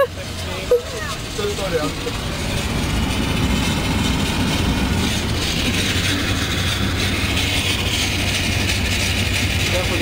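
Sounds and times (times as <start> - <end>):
tyre noise on road: 0.0 - 10.0
vehicle engine hum: 0.0 - 10.0.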